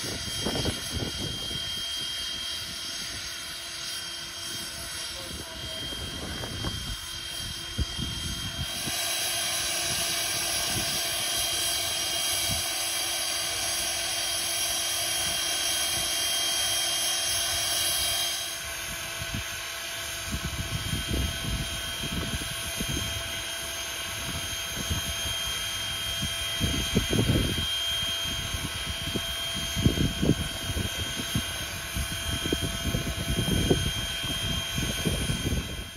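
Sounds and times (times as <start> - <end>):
wind buffeting microphone: 0.0 - 12.8, 18.8 - 35.9
steam locomotive hissing: 0.0 - 35.9.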